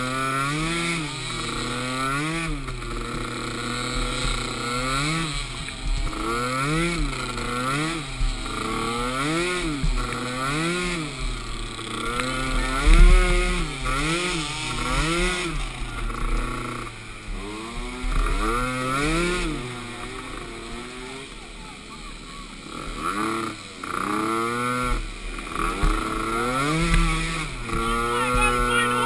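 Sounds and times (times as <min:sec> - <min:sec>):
small atv engine revving: 0:00.0 - 0:29.0.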